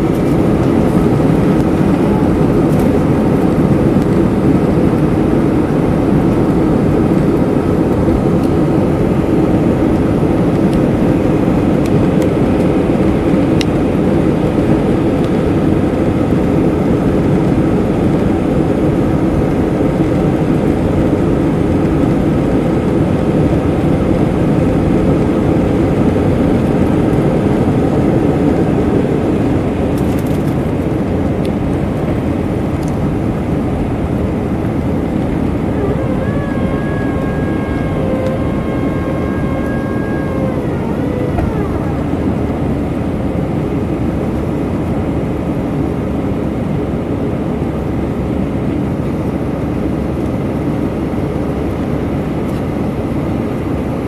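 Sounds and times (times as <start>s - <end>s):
airframe rumble: 0.0s - 45.3s
jet engines at takeoff power: 0.0s - 54.0s.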